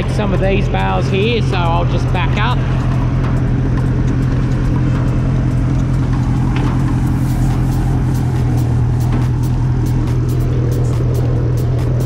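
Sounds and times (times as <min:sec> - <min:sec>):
light clicking rattles: 0:00.0 - 0:12.0
tractor engine running: 0:00.0 - 0:12.0.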